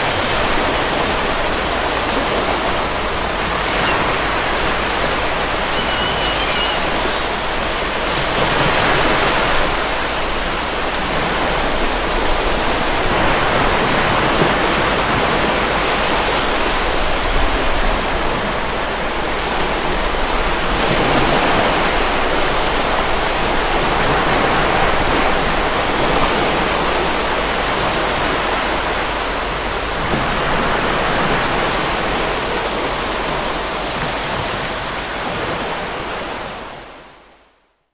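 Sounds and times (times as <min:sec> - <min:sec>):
heavy surf breaking: 0:00.0 - 0:37.0.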